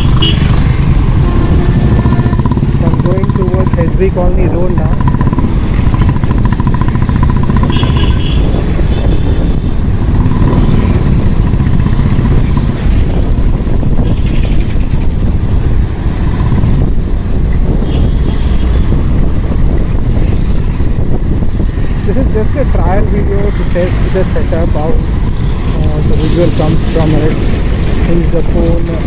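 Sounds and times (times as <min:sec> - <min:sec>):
motorcycle engine: 0:00.0 - 0:29.0
wind buffeting microphone: 0:00.0 - 0:29.0.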